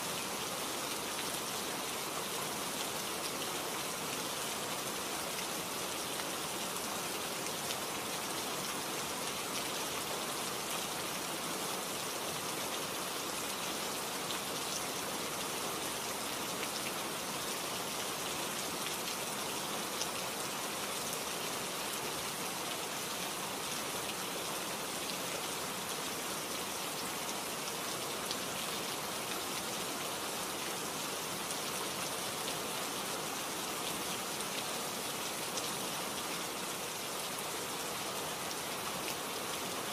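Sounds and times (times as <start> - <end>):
rain-like hiss: 0.0 - 39.9.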